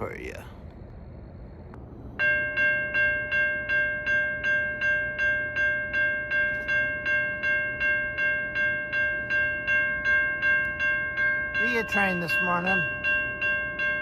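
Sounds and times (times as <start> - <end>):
level crossing warning bell: 2.0 - 14.0.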